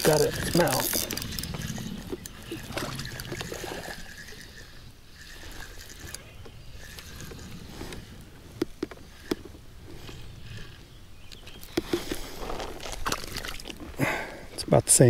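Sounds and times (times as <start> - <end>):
fishing reel cranking and clicking: 0.0 - 13.7
water trickling and lapping: 0.0 - 15.0.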